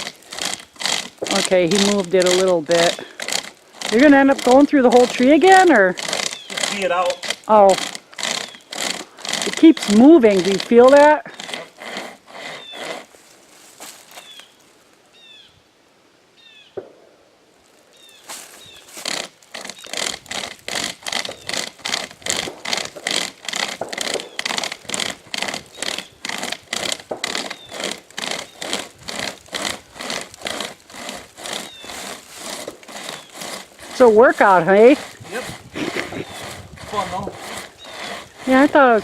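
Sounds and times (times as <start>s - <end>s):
hand chainsaw sawing wood: 0.0s - 14.4s, 18.3s - 39.0s.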